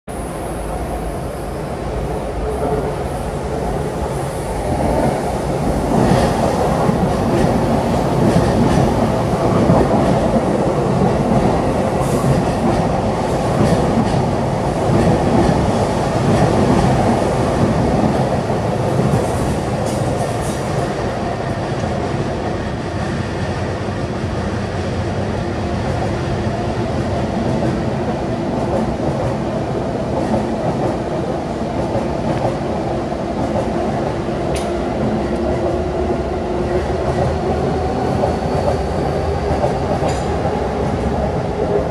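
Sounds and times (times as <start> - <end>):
trains rumbling on rails: 0.1 - 41.9.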